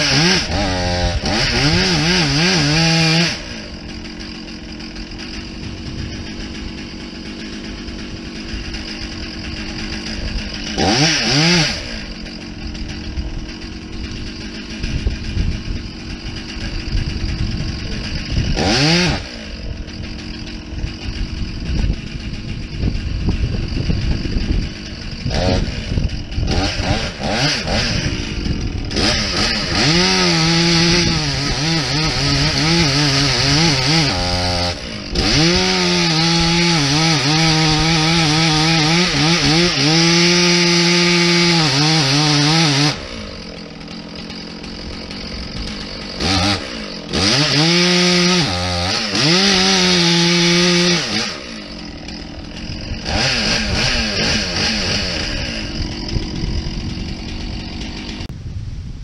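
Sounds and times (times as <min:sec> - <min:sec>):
chainsaw cutting wood: 0:00.0 - 0:58.4.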